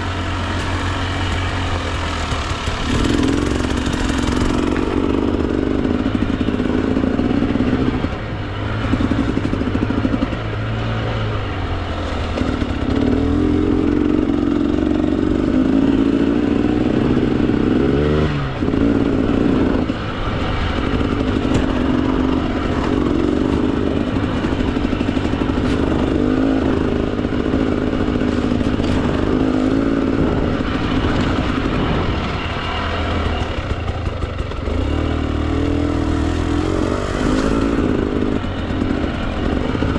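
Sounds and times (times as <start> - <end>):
bike rattling: 0.0 - 39.9
dirt bike engine revving: 0.0 - 39.9.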